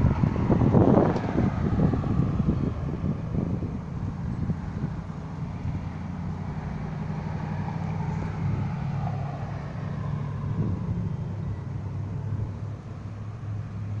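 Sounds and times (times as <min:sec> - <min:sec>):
low engine hum: 0:00.0 - 0:14.0
rushing wind: 0:00.0 - 0:14.0.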